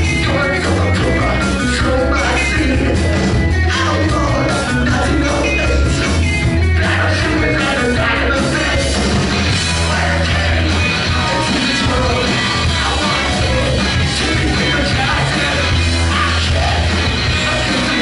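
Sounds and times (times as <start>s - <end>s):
bass guitar: 0.0s - 18.0s
drums: 0.0s - 18.0s
electric guitar: 0.0s - 18.0s
man singing and yelling: 0.0s - 18.0s.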